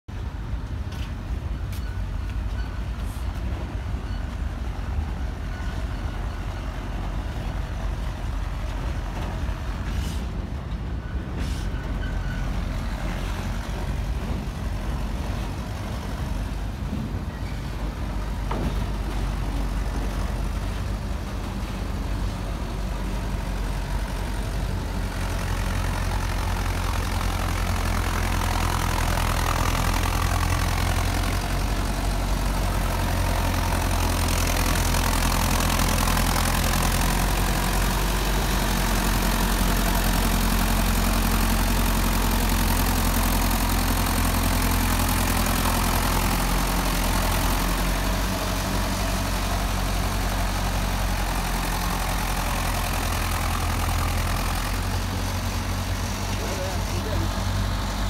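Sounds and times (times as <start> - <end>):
tractor diesel engine running: 0.1 - 58.0.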